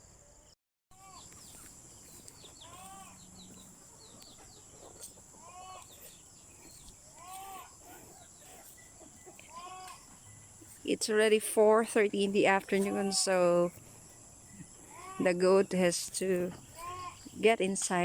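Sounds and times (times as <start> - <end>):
farm animals calling: 0.9 - 18.0
high-pitched insect buzz: 1.0 - 4.4, 5.0 - 18.0.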